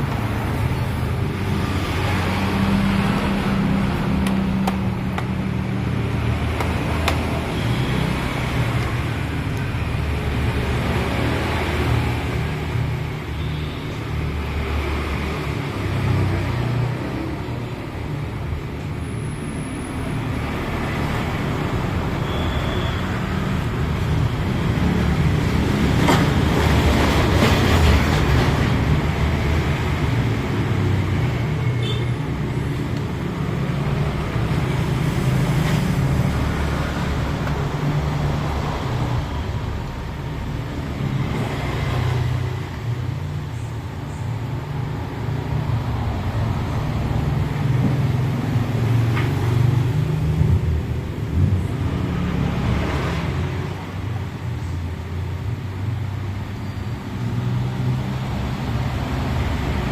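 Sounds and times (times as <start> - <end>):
road traffic rumble: 0.0 - 59.9
vehicles passing: 0.0 - 59.9.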